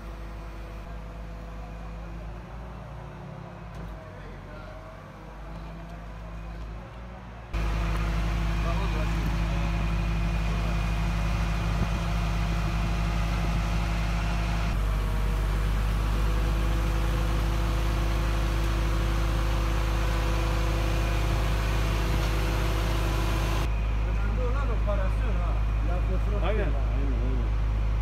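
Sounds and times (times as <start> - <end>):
engine idling hum: 0.0 - 28.0.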